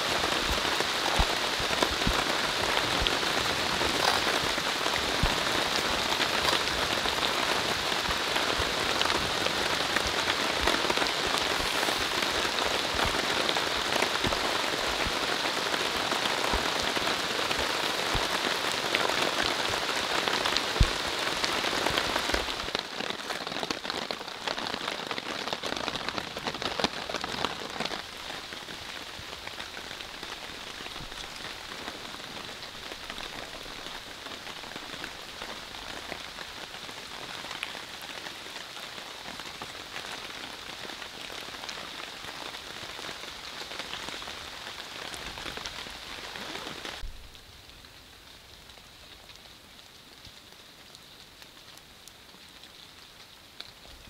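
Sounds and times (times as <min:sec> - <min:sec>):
rain falling: 0:00.0 - 0:54.0
sharp raindrops: 0:00.0 - 0:54.0.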